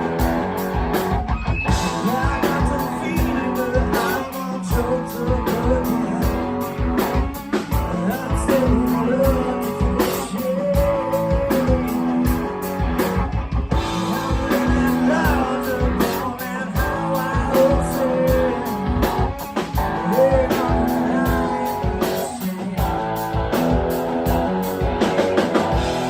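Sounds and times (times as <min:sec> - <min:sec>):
drum kit beat: 0:00.0 - 0:26.0
guitar: 0:00.0 - 0:26.0
person singing: 0:01.7 - 0:26.0.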